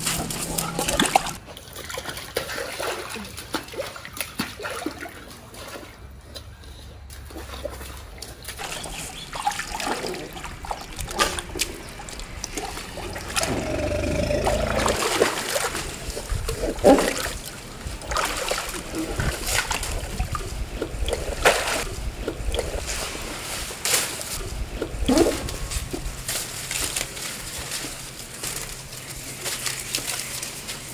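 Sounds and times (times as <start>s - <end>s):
elephant splashing water in tub: 0.0s - 6.0s, 7.3s - 30.9s.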